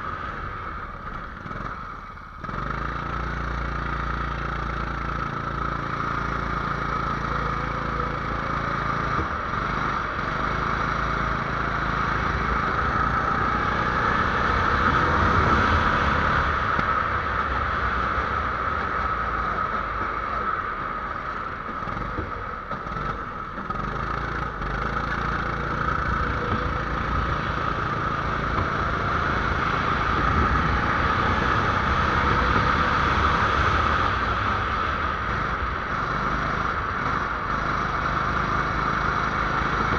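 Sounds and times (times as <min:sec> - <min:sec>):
engine running under load: 0:00.0 - 0:39.9.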